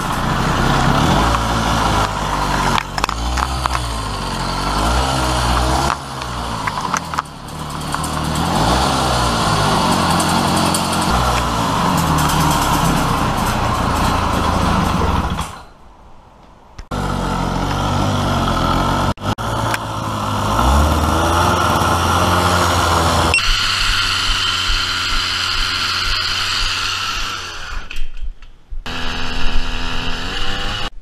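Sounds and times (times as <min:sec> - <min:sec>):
two-stroke engine revving: 0:00.0 - 0:15.7, 0:16.9 - 0:28.1, 0:28.8 - 0:31.0.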